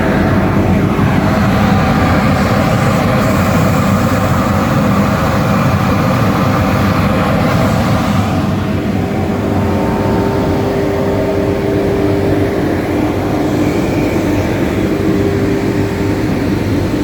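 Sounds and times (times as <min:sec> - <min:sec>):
drilling rig machinery rumble: 0:00.0 - 0:17.0.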